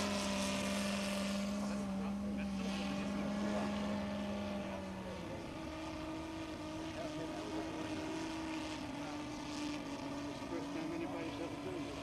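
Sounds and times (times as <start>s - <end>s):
model aero engine droning: 0.0s - 12.0s.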